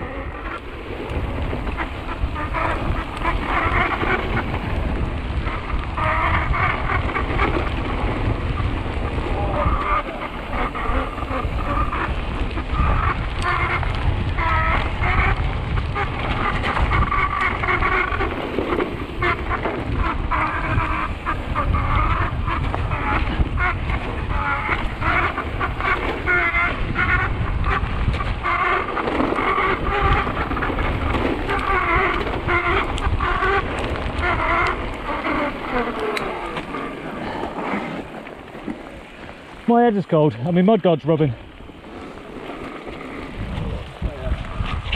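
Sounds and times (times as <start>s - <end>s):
wind and tyres rumbling: 0.0s - 44.9s.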